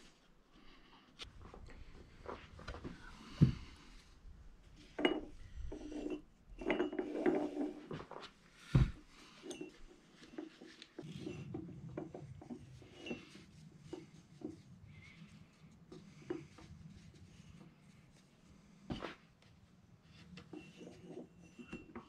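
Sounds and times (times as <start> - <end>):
rustling and light clinks: 0.9 - 22.0.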